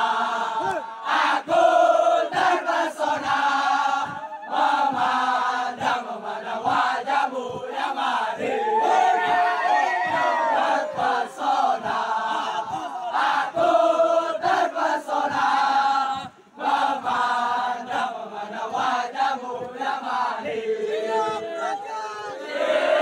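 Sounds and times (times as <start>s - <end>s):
crowd chanting in unison: 0.0s - 23.0s.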